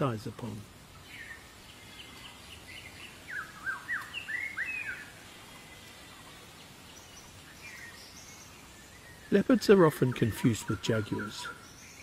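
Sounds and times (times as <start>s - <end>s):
forest ambience hiss: 0.0s - 12.0s
songbird singing: 0.0s - 12.0s
faint bird chirps: 0.2s - 12.0s.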